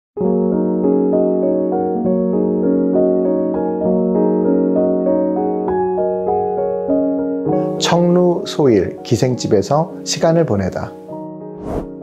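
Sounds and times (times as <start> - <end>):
electric piano music: 0.2 - 12.0.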